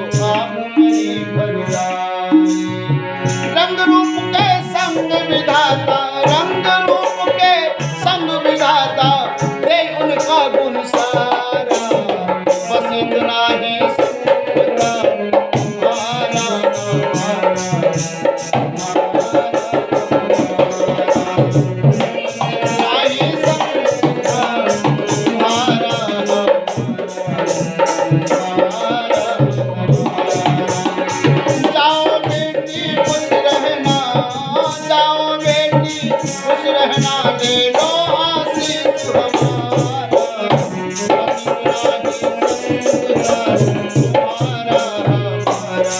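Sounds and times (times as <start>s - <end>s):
fast tabla rhythm: 0.0s - 45.9s.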